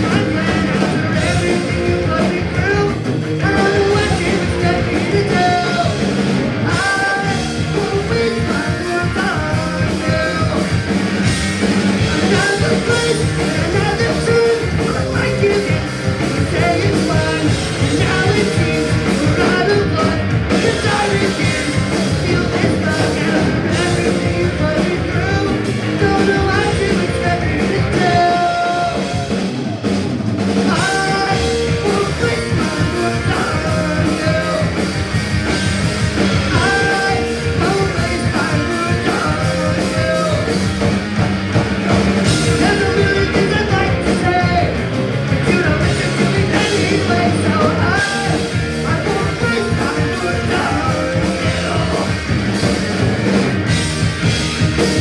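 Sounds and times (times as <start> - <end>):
person singing: 0.0 - 29.6, 30.6 - 41.0, 41.8 - 52.7
punk rock band playing live: 0.0 - 55.0.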